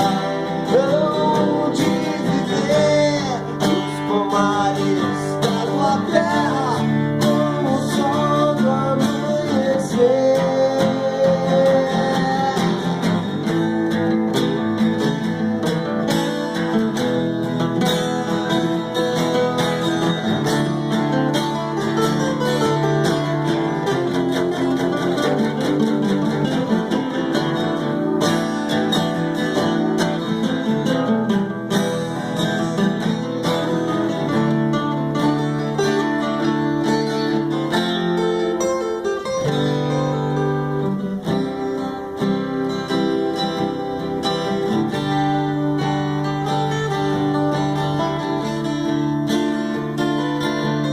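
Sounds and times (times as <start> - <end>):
country-style acoustic guitar: 0.0 - 50.9.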